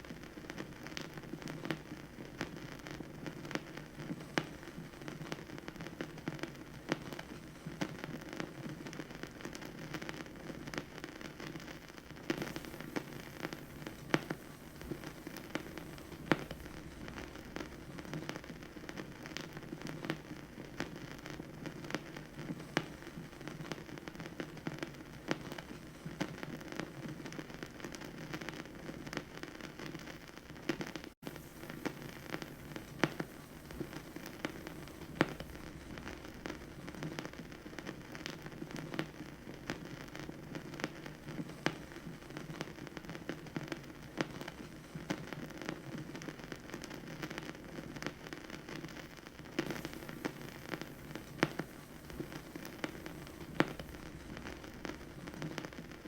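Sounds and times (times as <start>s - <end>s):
low hiss: 0.0s - 56.0s
vinyl record crackle: 0.0s - 56.0s.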